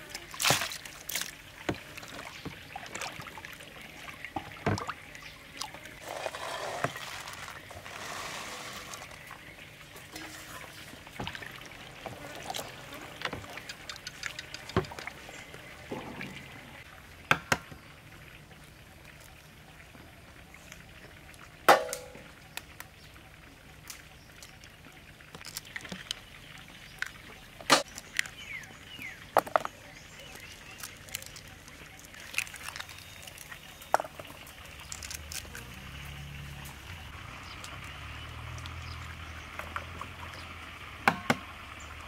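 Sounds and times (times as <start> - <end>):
faint water splashing: 0.0 - 42.0.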